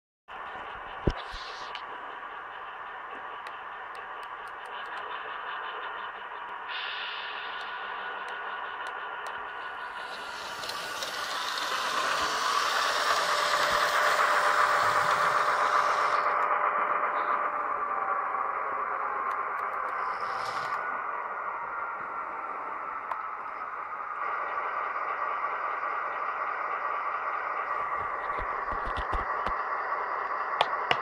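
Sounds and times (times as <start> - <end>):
model train running on track: 0.3 - 31.0.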